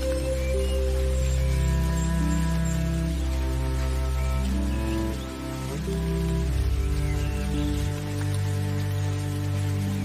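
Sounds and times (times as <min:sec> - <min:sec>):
calm instrumental music: 0:00.0 - 0:10.0
hiss of rain or water: 0:00.0 - 0:10.0.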